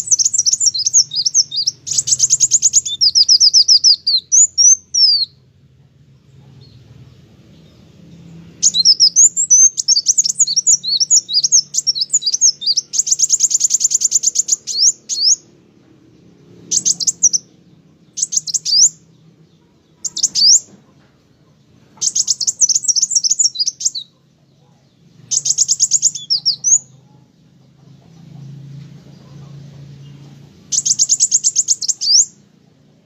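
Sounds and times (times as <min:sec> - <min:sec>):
sunbird singing high chirps and trills: 0:00.0 - 0:33.0.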